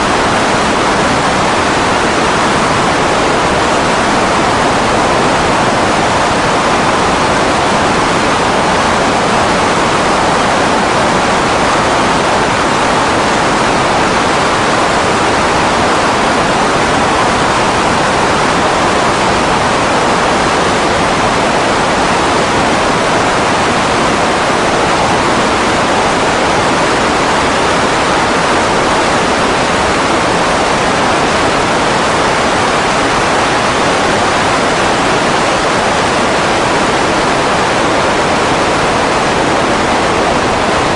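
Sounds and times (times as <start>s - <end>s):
seaplane engine and propeller roar: 0.0s - 40.9s.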